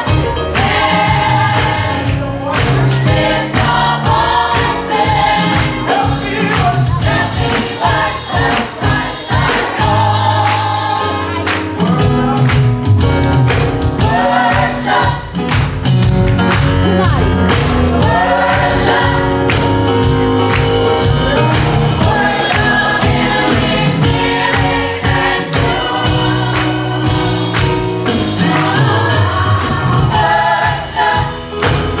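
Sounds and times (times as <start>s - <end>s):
band with drum beat: 0.0s - 32.0s
choir singing gospel: 0.0s - 32.0s.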